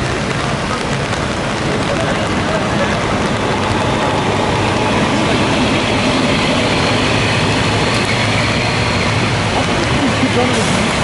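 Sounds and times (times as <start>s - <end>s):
churning water: 0.0s - 11.0s
rain hiss: 0.0s - 11.0s
truck diesel engine running: 0.0s - 11.0s.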